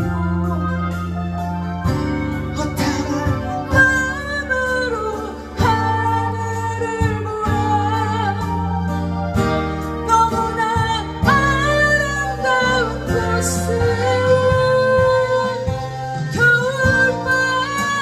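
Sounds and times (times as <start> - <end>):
acoustic guitar: 0.0 - 18.0
woman singing ballad: 0.0 - 18.0.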